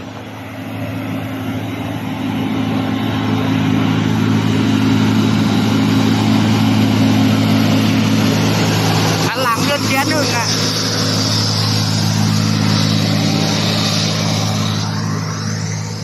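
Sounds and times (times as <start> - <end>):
diesel truck engine labouring: 0.0 - 16.0.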